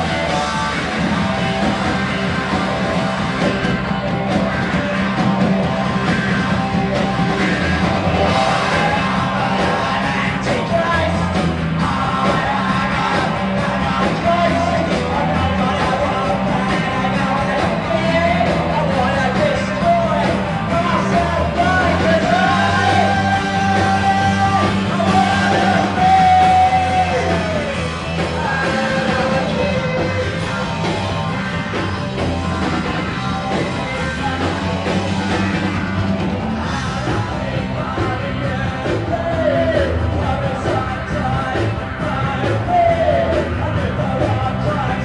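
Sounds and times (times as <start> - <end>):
punk rock band playing live: 0.0 - 45.0
shouted lead vocal: 0.0 - 45.0.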